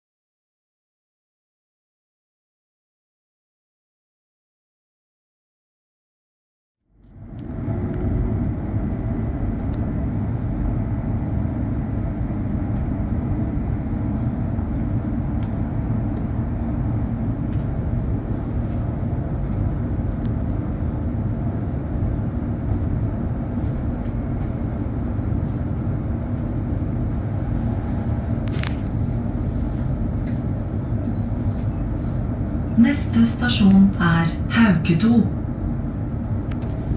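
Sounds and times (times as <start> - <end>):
train wheels rumbling on rail: 7.2 - 36.9.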